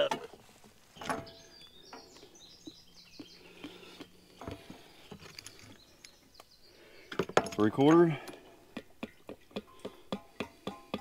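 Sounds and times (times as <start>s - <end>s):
bird chirping: 0.8s - 11.0s.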